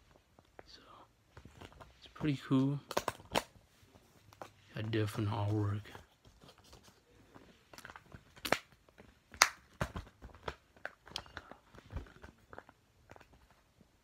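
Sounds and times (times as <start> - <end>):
paper crinkling: 1.4 - 13.7.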